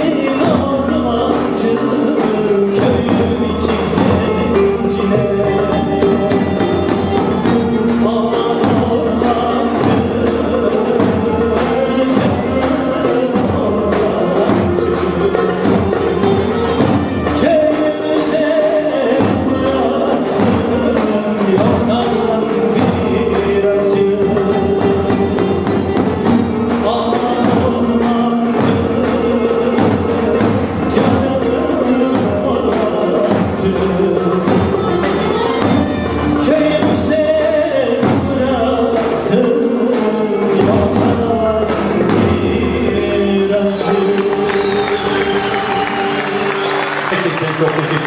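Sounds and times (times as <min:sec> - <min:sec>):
live band playing folk song: 0:00.0 - 0:48.0
steady percussion beat: 0:00.0 - 0:48.0.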